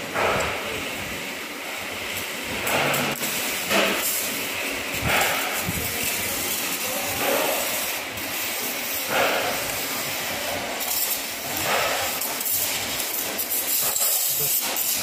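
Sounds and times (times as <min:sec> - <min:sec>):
steady hiss: 0:00.2 - 0:15.0.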